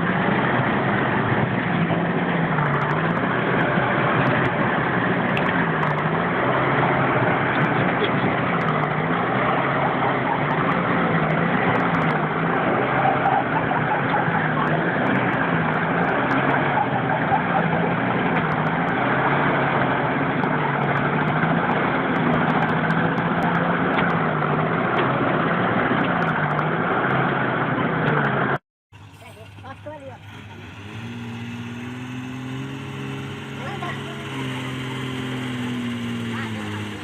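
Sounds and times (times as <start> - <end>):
constant rushing noise: 0.0 - 28.6, 29.2 - 37.0
vehicle engine humming: 0.0 - 37.0.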